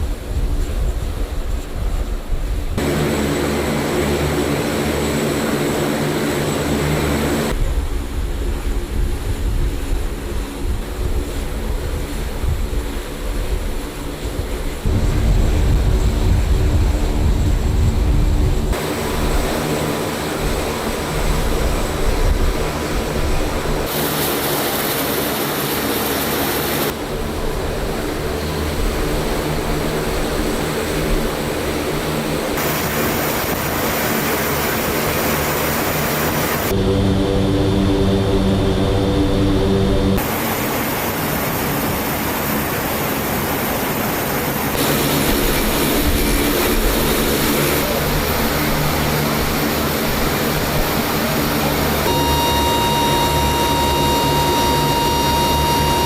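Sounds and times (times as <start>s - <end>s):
turboprop engines droning: 0.0s - 56.0s.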